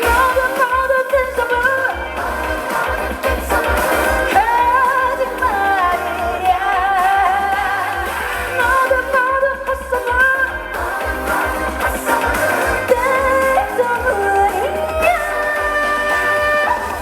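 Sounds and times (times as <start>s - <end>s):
steady bass beat: 0.0s - 17.0s
trot song with vibrato lead: 0.0s - 17.0s.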